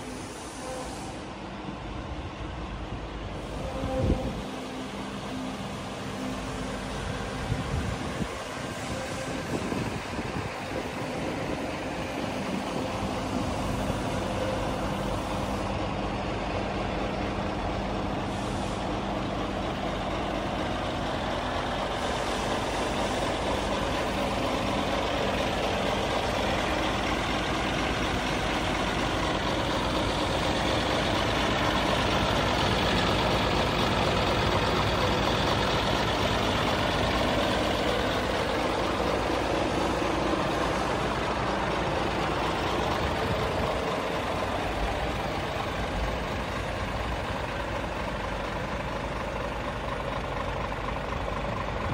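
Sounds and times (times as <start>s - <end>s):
diesel truck idling: 0.0s - 51.9s.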